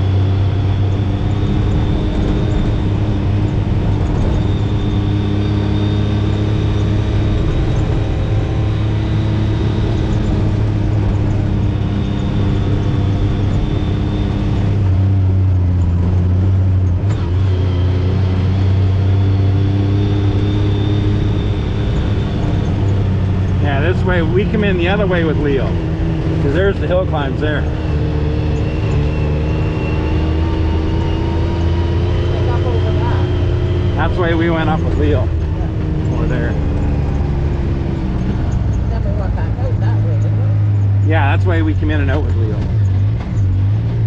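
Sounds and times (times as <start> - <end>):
utility vehicle engine humming: 0.0 - 44.0.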